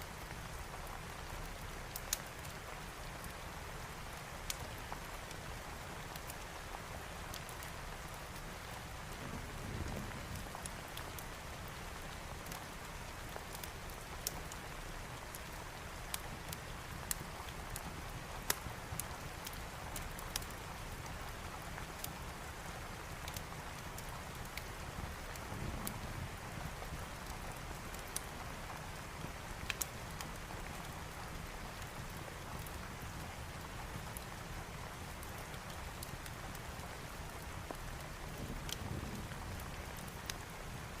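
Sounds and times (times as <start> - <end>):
fireplace crackles: 4.2 - 41.0.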